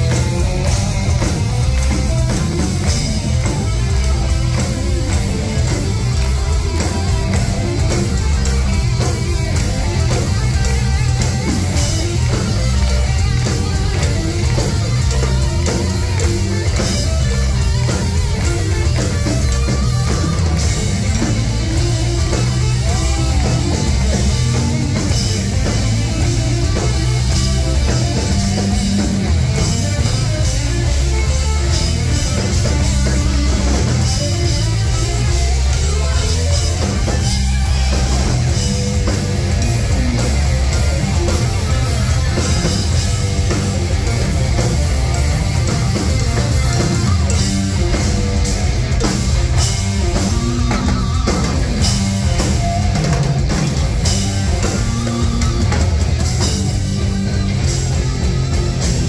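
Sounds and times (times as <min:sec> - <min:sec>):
drum kit: 0:00.0 - 0:59.0
electric bass guitar: 0:00.0 - 0:59.0
live heavy rock band: 0:00.0 - 0:59.0.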